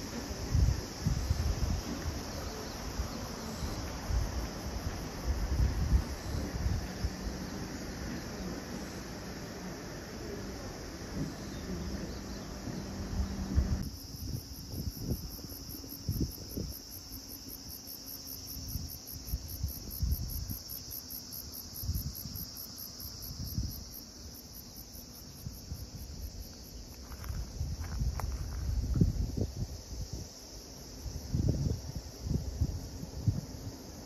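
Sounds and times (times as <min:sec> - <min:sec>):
high pulsing insect call: 0:00.0 - 0:34.0
insects chirring: 0:00.0 - 0:34.0.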